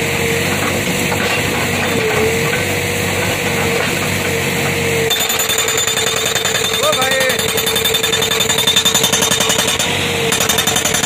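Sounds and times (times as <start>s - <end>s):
diesel engine running: 0.0s - 11.0s
hydraulic rock breaker hammering: 0.0s - 11.0s.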